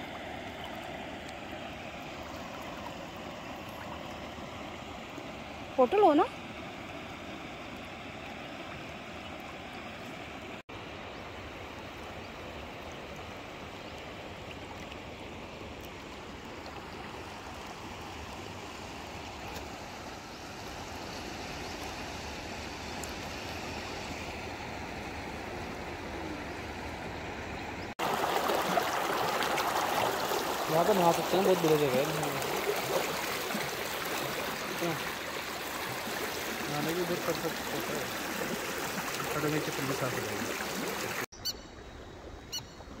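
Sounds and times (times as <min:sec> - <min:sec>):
river water over stones: 0:00.0 - 0:43.0.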